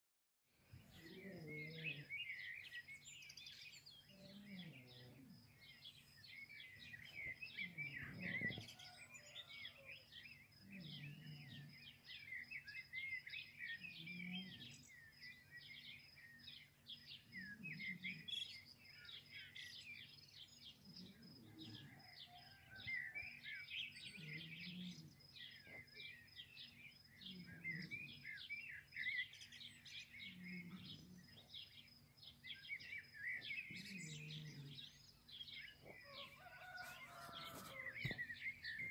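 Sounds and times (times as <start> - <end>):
songbirds chirping: 0.5 - 38.9.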